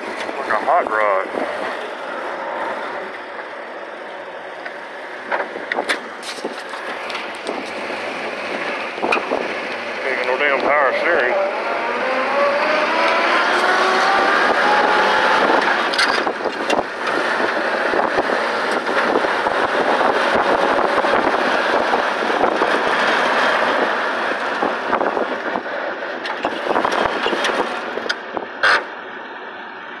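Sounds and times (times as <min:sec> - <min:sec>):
jeep engine accelerating: 0:00.0 - 0:30.0
wind and road noise: 0:00.0 - 0:30.0.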